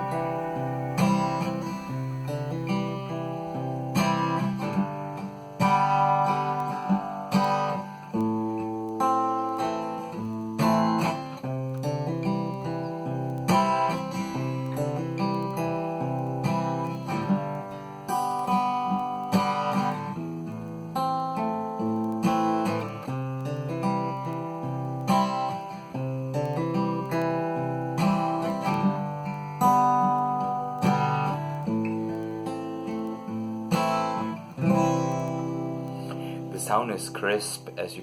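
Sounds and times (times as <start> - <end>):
acoustic guitar fingerstyle: 0.0 - 38.0.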